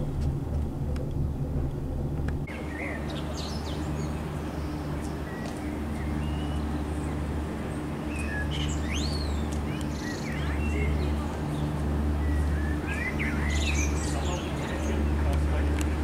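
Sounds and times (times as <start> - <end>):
low mechanical hum: 0.0 - 16.0
small birds chirping: 2.4 - 16.0.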